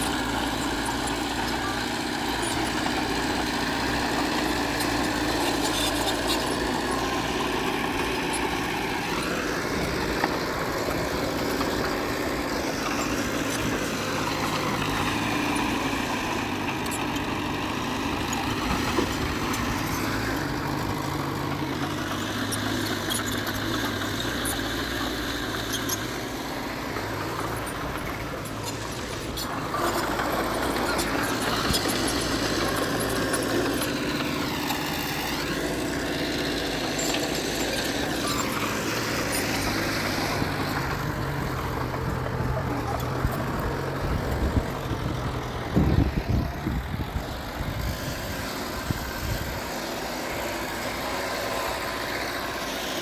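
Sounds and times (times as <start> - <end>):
diesel machinery engine: 0.0 - 53.0.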